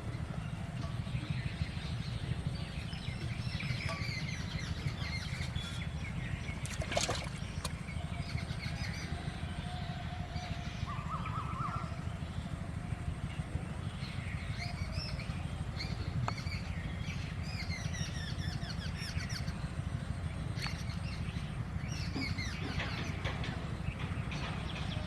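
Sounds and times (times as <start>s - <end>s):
small birds chirping: 0.1s - 9.2s, 13.9s - 25.0s.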